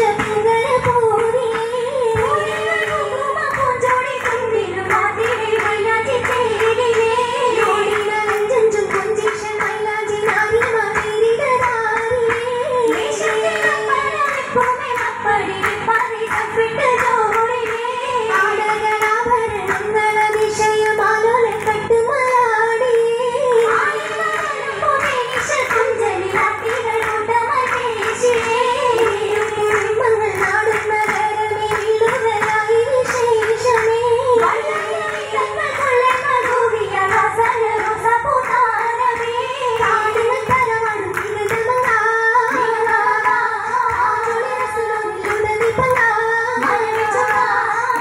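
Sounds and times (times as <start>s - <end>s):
girls singing: 0.0s - 48.0s
handclaps: 0.0s - 48.0s.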